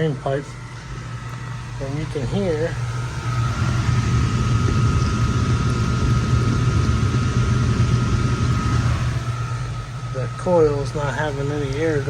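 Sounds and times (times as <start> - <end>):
air handler low rumble: 0.0 - 12.0.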